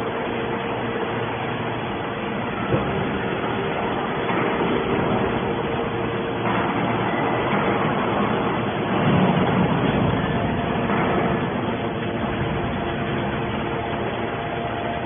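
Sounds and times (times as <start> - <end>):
hydraulic baler running: 0.0 - 15.0.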